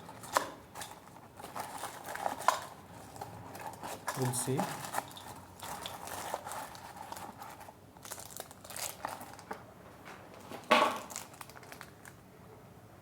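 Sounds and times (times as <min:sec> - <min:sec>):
plastic packaging crinkling: 0:00.0 - 0:09.7, 0:10.4 - 0:12.2.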